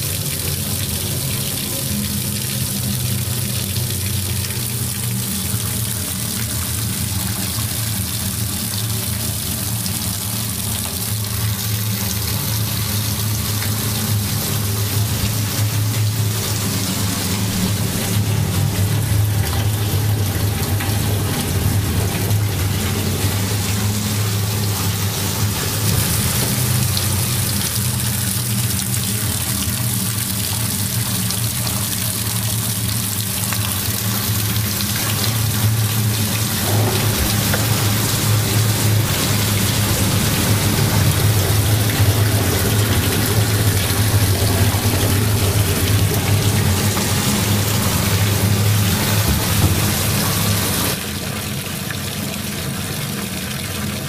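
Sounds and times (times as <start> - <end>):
tap water running into metal sink: 0.0 - 54.0.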